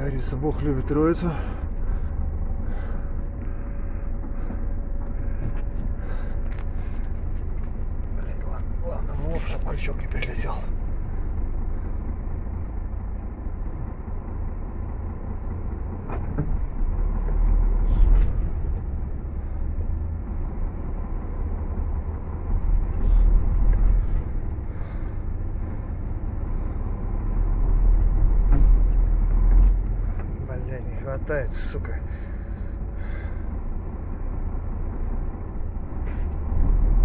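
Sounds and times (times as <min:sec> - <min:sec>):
truck diesel engine straining: 0:00.0 - 0:37.0.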